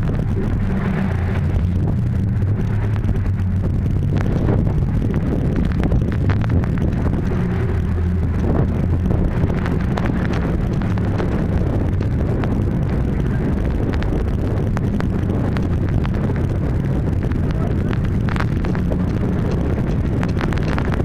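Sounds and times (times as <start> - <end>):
boat engines running: 0.0 - 21.0
wind buffeting microphone: 0.0 - 21.0.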